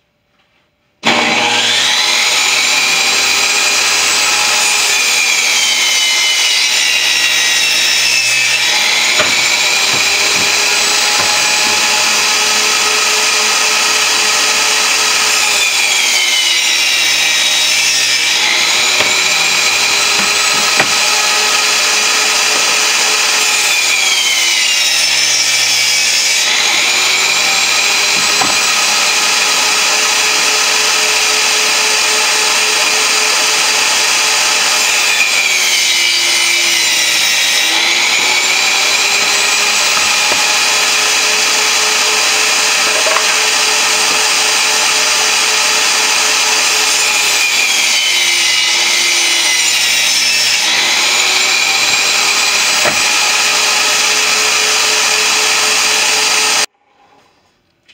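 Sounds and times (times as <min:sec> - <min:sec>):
table saw motor whine: 0:01.0 - 0:56.7.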